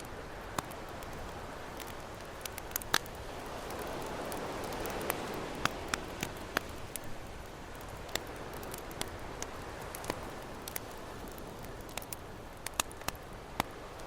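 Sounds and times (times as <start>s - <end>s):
campfire crackling and popping: 0.0s - 14.0s
ocean waves: 0.0s - 14.0s.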